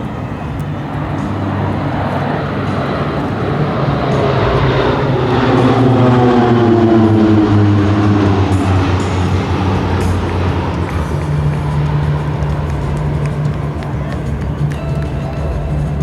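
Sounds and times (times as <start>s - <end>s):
turboprop aircraft passing by: 0.0s - 16.0s.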